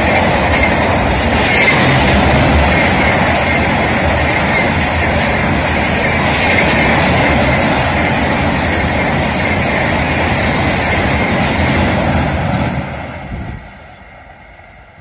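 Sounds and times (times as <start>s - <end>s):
train rumbling over steel bridge: 0.0s - 15.0s.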